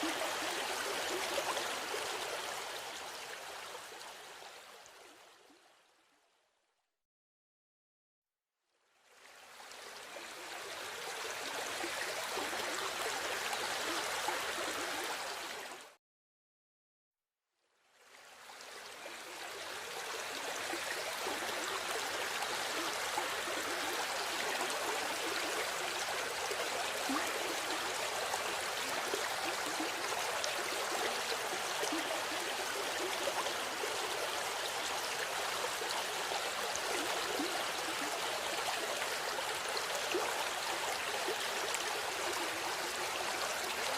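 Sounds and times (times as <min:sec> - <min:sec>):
river water flowing: 0:00.0 - 0:05.2, 0:09.0 - 0:15.8, 0:18.0 - 0:43.9.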